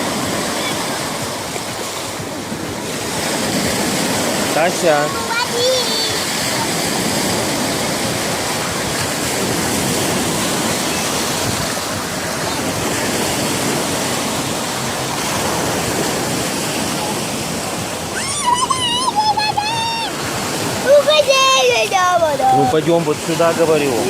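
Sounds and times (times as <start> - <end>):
sea waves washing ashore: 0.0 - 24.0.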